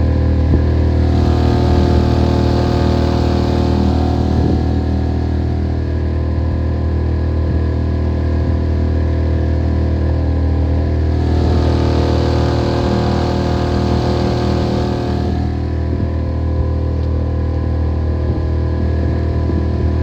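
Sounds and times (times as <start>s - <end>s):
small outboard motor running: 0.0s - 20.0s.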